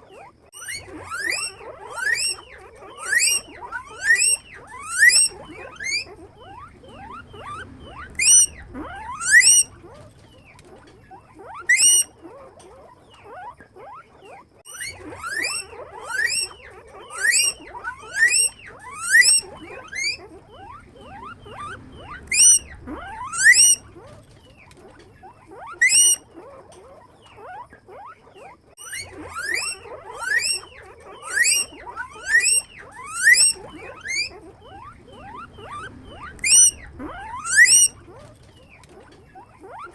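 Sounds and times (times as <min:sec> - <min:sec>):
faint squeaks: 0:00.0 - 0:39.9
guinea pigs wheeking: 0:00.0 - 0:39.9.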